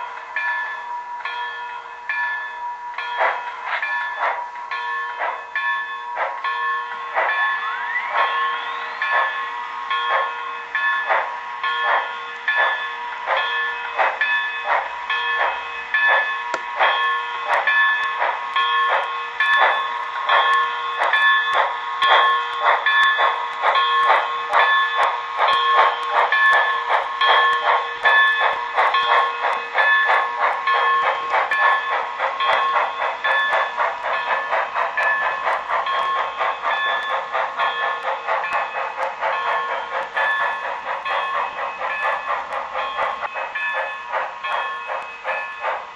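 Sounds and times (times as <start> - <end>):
model steam locomotive chuffing: 0.0 - 45.9.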